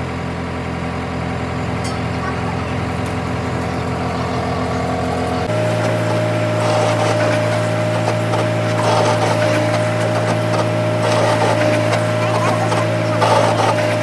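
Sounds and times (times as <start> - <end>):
machine humming and whining: 0.0 - 14.0
machine scraping noise: 2.7 - 14.0.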